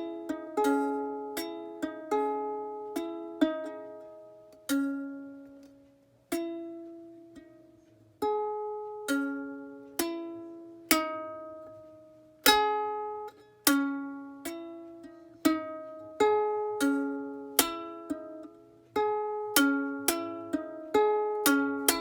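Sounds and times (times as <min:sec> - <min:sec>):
ukulele strummed slowly: 0:00.0 - 0:22.0.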